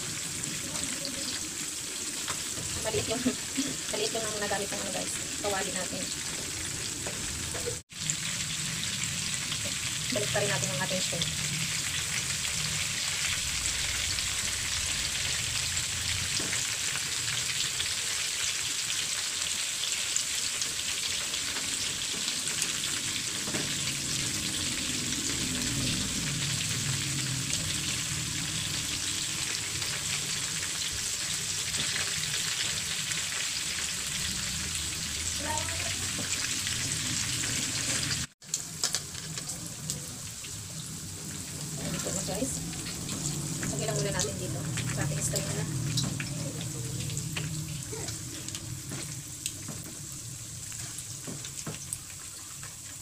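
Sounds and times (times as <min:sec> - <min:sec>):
shrimp sizzling in hot oil: 0:00.0 - 0:53.0.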